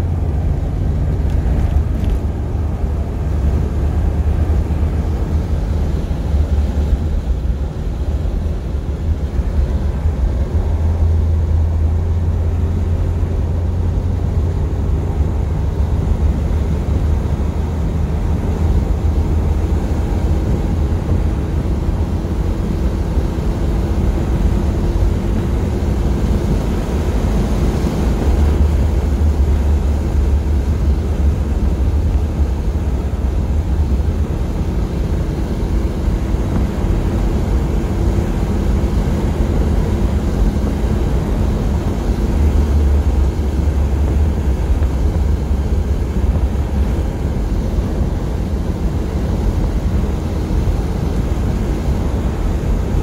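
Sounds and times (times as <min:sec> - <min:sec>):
car engine low rumble: 0:00.0 - 0:53.0
road and wind noise: 0:00.0 - 0:53.0.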